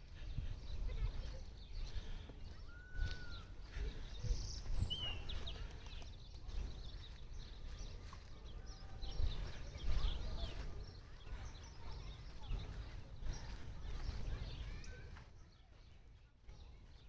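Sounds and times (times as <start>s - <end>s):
songbirds chirping and whistling: 0.0s - 17.0s.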